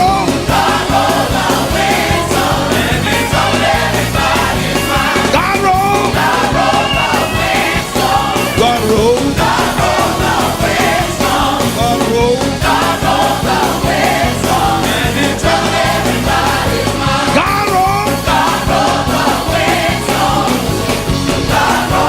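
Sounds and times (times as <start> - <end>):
gospel band playing: 0.0 - 22.0
people singing: 0.0 - 22.0.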